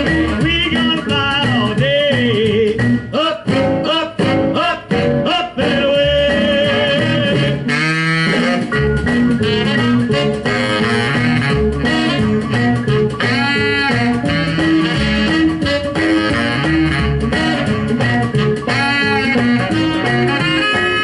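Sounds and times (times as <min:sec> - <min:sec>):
guitar with bent notes: 0:00.0 - 0:21.0
walking bass: 0:00.0 - 0:21.0.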